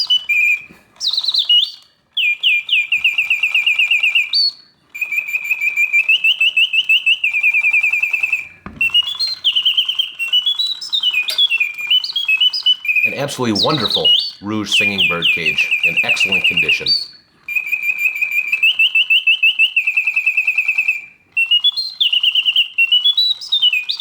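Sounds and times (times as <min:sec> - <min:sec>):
mechanical bird whistles: 0:00.0 - 0:24.0.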